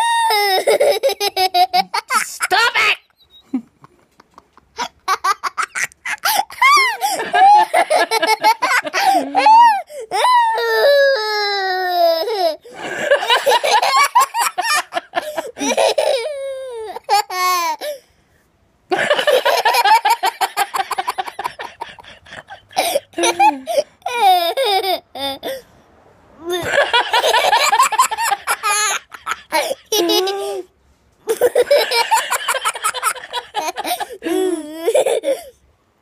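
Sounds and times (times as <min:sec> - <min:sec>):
boy laughing: 0:00.0 - 0:17.9, 0:18.9 - 0:25.6, 0:26.4 - 0:30.7, 0:31.3 - 0:35.5.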